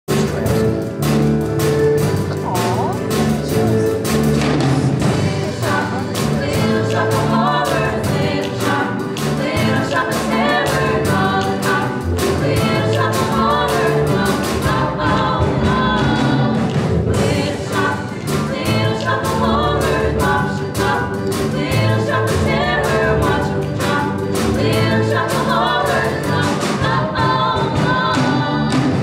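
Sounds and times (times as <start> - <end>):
live band with steady beat: 0.1 - 29.0
women singing in harmony: 5.0 - 29.0.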